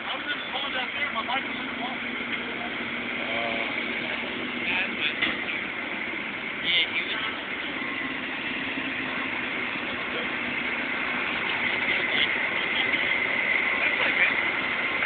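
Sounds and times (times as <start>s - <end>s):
engine idling: 0.0s - 15.0s
high whine: 0.0s - 15.0s.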